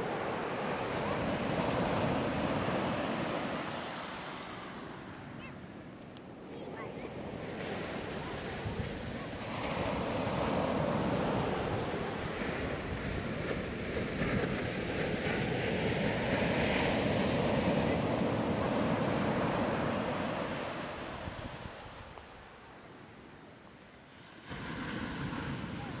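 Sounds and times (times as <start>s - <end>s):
small waves breaking on shore: 0.0s - 26.0s.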